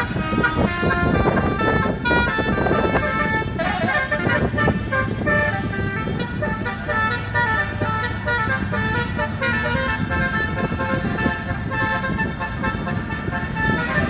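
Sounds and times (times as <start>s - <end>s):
bus engine rumbling: 0.0s - 14.0s
multi-tone bus horn tune: 0.0s - 14.0s.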